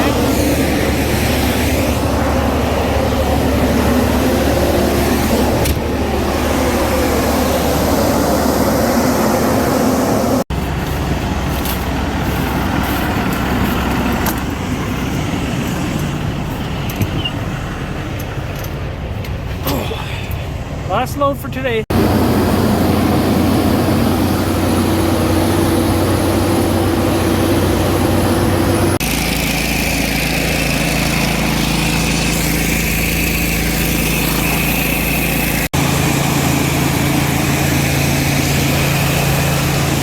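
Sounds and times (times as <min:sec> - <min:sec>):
heavy farm machinery running: 0:00.0 - 0:40.0.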